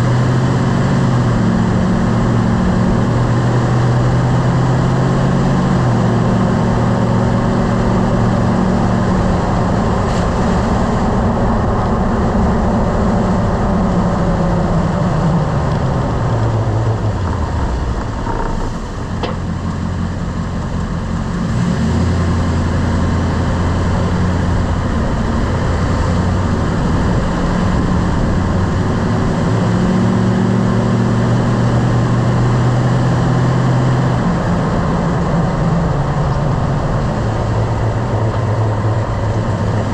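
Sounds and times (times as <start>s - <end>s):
road noise: 0.0s - 39.9s
truck engine: 0.0s - 39.9s.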